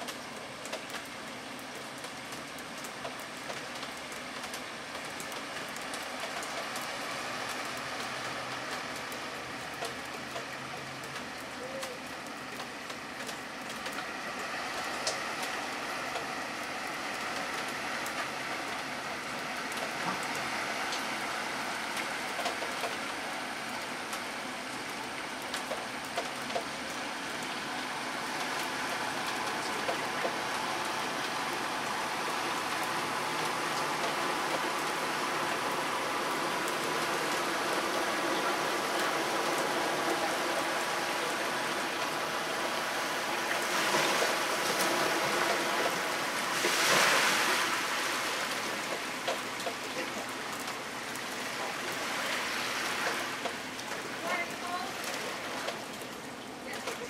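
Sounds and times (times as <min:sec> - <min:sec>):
rain and moving floodwater: 0:00.0 - 0:57.0
water splashes: 0:00.0 - 0:57.0.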